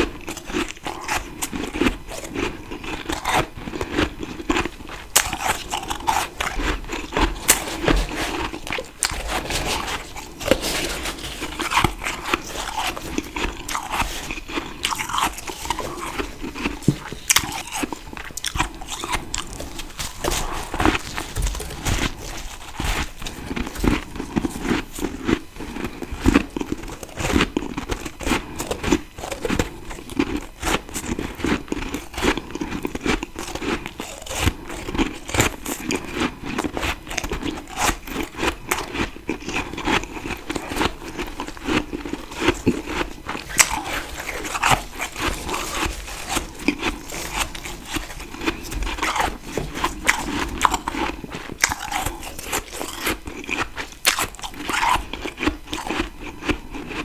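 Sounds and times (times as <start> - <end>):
crunchy biting and chewing of frost: 0.0 - 57.0.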